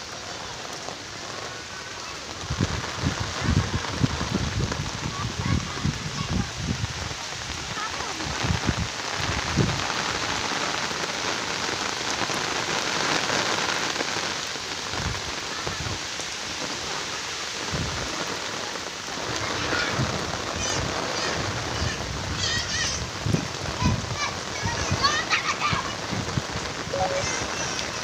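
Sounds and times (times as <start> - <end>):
steady rain on wet ground: 0.0 - 28.0.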